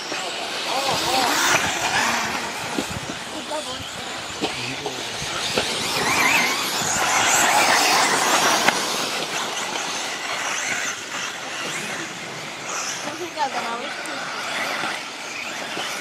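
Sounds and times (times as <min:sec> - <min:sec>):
rc car motors whirring: 0:00.0 - 0:16.0
tyres scrabbling on dirt: 0:00.3 - 0:14.7.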